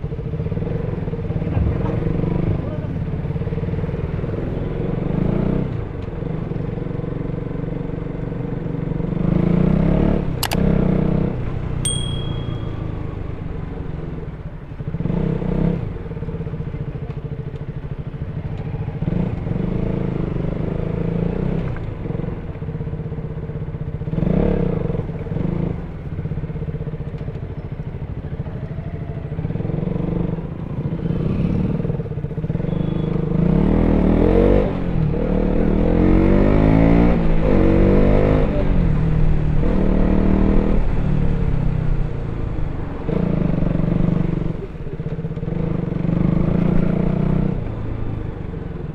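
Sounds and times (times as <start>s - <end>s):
motorcycle engine revving: 8.4s - 27.0s, 28.2s - 48.9s.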